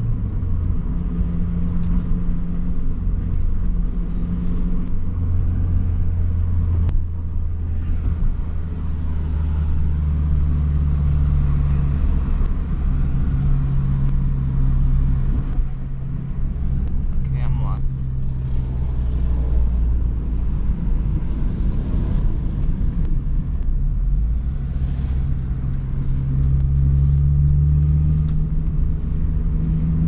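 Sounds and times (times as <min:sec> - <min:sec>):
road noise inside car: 0:00.0 - 0:30.0.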